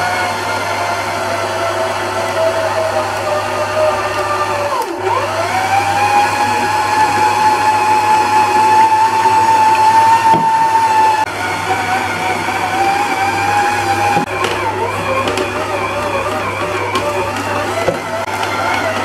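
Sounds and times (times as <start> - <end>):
stand mixer motor whining: 0.0 - 19.0.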